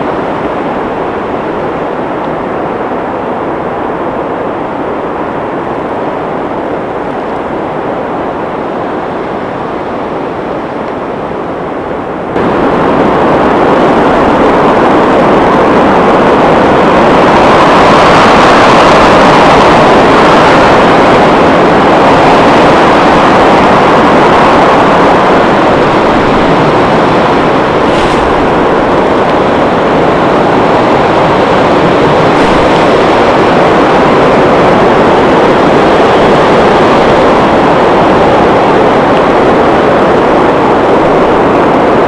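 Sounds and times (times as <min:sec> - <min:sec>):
wind roaring across microphone: 0:00.0 - 0:42.0.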